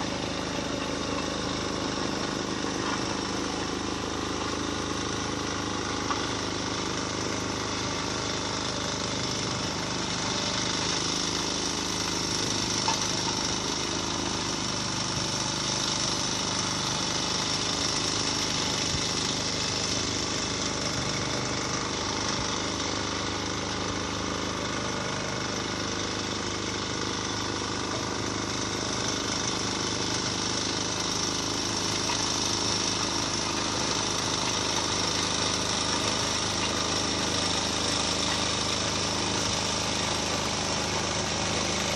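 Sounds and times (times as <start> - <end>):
road-repair machinery running: 0.0 - 41.9.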